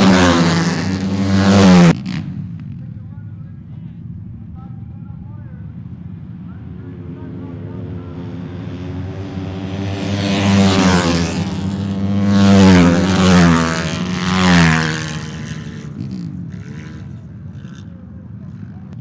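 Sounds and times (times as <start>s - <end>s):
motorcycles passing by: 0.0s - 19.0s.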